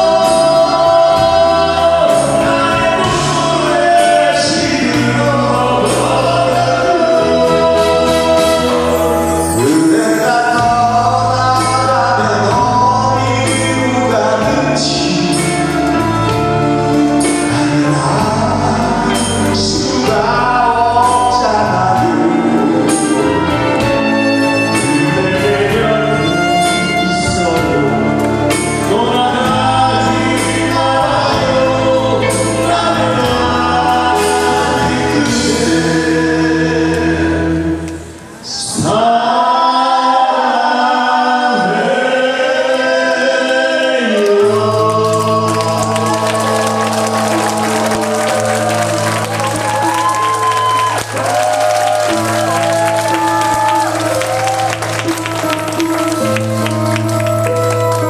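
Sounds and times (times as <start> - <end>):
live band playing: 0.0 - 39.1, 41.7 - 58.0
two men singing a duet: 0.0 - 54.7.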